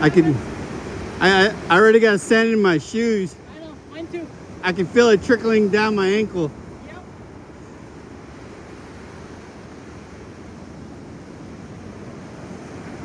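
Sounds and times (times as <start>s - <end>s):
ocean surf washing on beach: 0.0s - 13.0s
wind on microphone: 0.0s - 13.0s.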